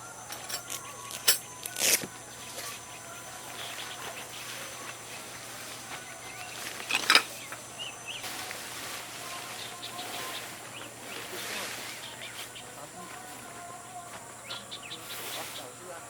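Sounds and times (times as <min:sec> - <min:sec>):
birds chirping: 0:00.0 - 0:16.0
insects: 0:00.0 - 0:16.0
steady background hiss: 0:00.0 - 0:16.0.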